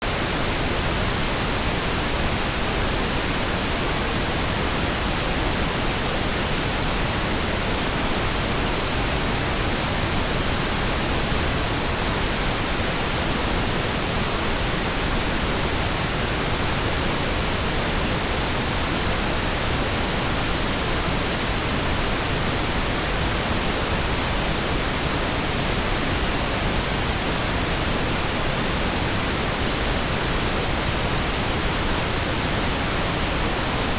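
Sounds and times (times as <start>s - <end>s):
pink noise hiss: 0.0s - 33.9s.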